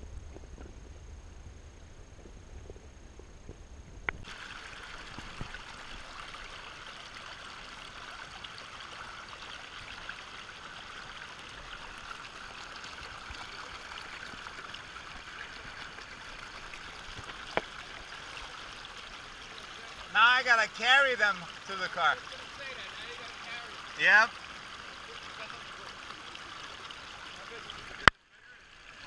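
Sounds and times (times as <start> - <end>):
river water rushing: 4.3 - 27.9.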